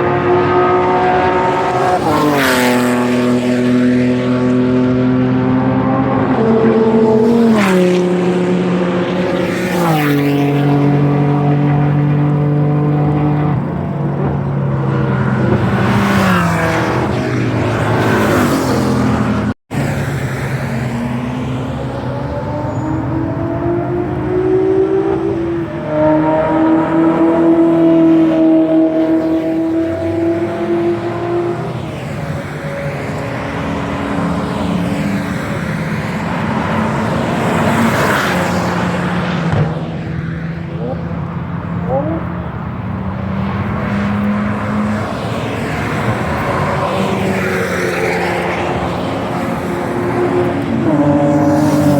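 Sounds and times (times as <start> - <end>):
car passing by: 0.0 - 13.8, 14.5 - 51.9
race car engines: 0.0 - 51.9
road and tyre noise: 0.0 - 51.9.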